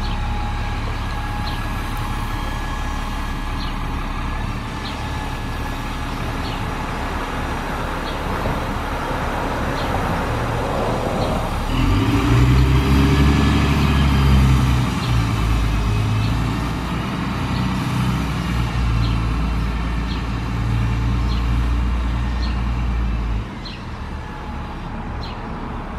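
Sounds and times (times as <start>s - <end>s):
bus diesel engine pulling away: 0.0s - 25.9s.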